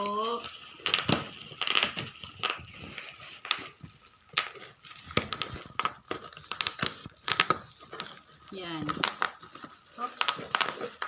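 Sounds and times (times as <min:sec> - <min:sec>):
packaging crinkling: 0:00.0 - 0:11.0
sharp cracks and knocks: 0:00.7 - 0:02.8, 0:03.4 - 0:11.0.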